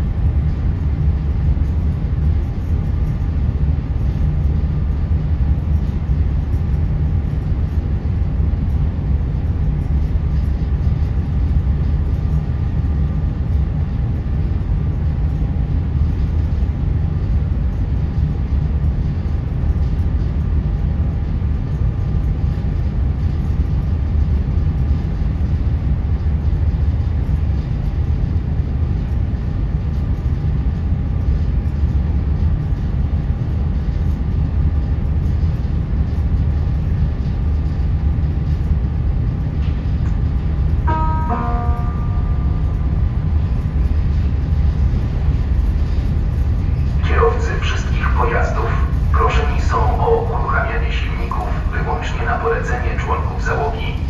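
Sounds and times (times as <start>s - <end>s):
faint machinery whine: 0.0s - 54.0s
ship engine low rumble: 0.0s - 54.0s.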